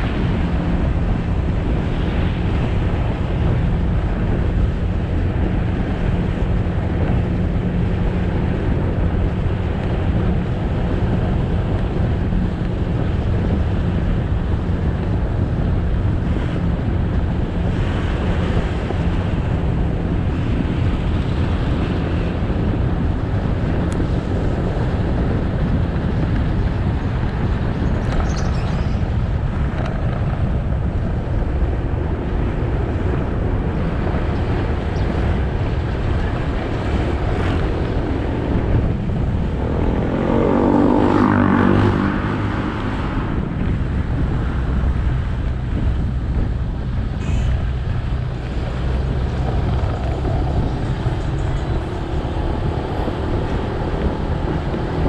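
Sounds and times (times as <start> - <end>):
motorbike engine cruising: 0.0 - 55.0
wind rushing over microphone: 0.0 - 55.0.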